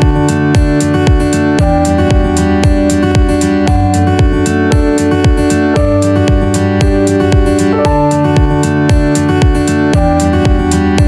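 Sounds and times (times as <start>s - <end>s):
guitar music over a steady beat: 0.0s - 11.0s.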